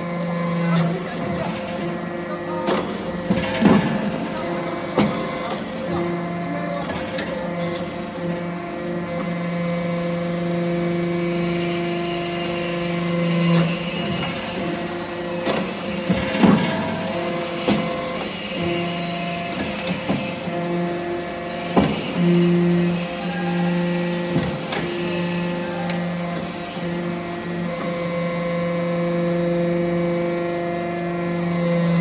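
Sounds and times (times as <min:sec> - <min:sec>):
hydraulic power unit humming: 0:00.0 - 0:32.0.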